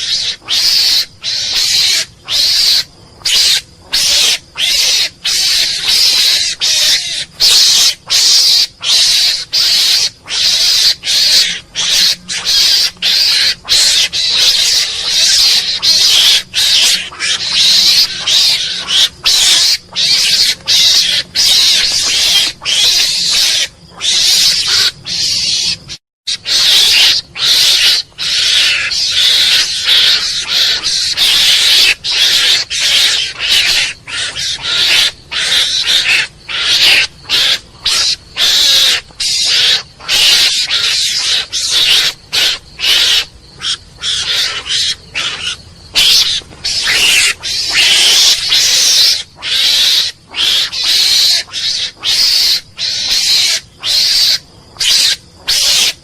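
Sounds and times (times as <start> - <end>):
mongoose chattering calls: 0.0 - 56.0.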